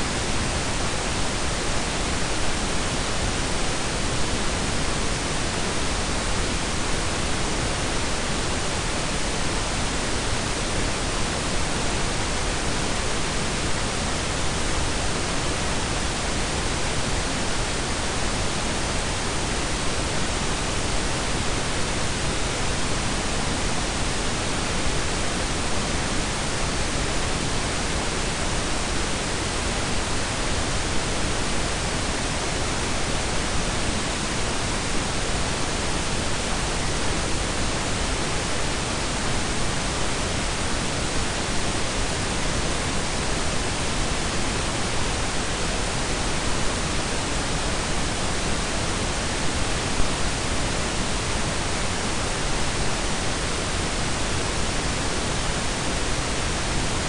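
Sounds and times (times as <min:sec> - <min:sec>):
pink and brown noise: 0:00.0 - 0:57.0.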